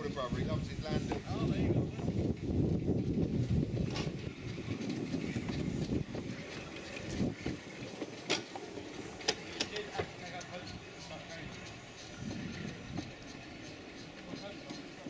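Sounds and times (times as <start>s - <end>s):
steam locomotive rumbling on track: 0.0s - 15.0s.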